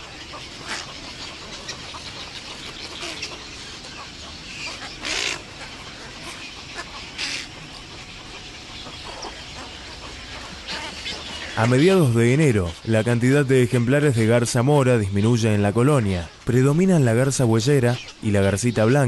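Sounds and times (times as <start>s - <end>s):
birds squawking and croaking: 0.0s - 19.0s.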